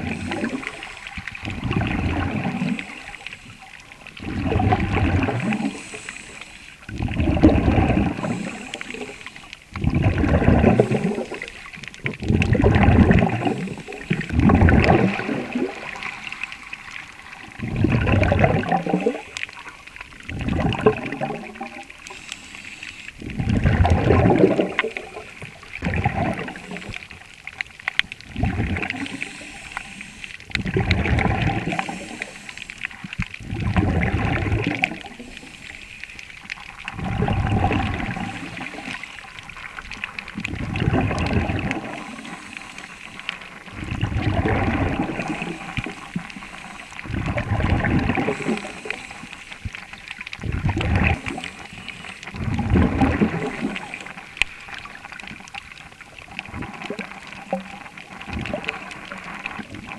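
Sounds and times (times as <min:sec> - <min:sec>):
exhaled bubbles gurgling underwater: 0:00.0 - 0:59.9.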